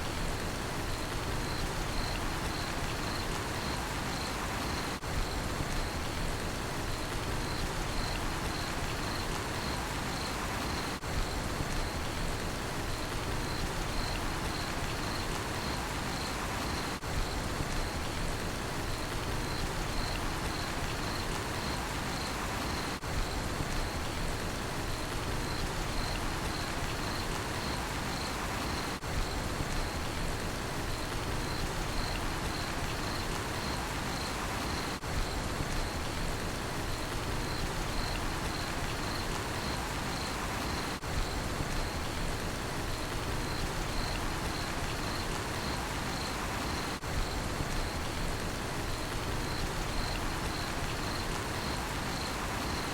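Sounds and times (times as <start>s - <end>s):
steady rain falling: 0.0s - 52.9s
cricket chirping: 0.9s - 6.1s, 6.9s - 12.2s, 12.9s - 18.2s, 18.8s - 24.2s, 25.3s - 30.2s, 30.8s - 36.2s, 36.8s - 52.9s.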